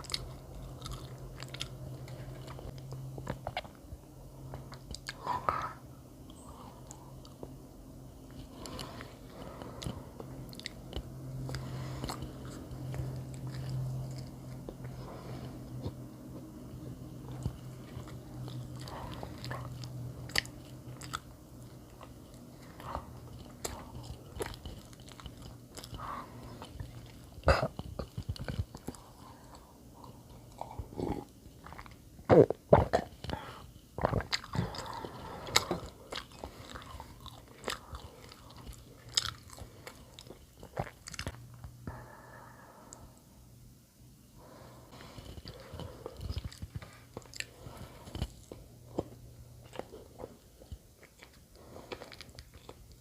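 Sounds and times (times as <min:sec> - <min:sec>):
person chewing bread: 0:00.0 - 0:43.2, 0:44.4 - 0:53.0.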